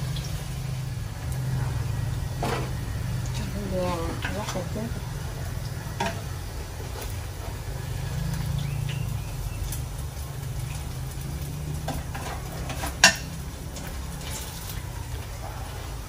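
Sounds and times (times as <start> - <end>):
utensil scraping metal wok: 0.1 - 16.0.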